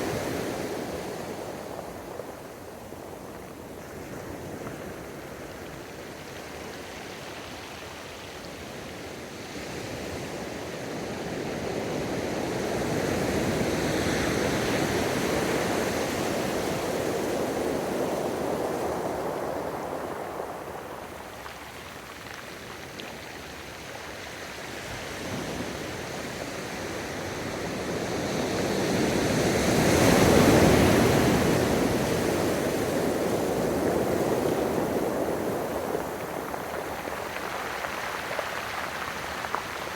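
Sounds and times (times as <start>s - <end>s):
ocean waves washing on beach: 0.0s - 39.9s.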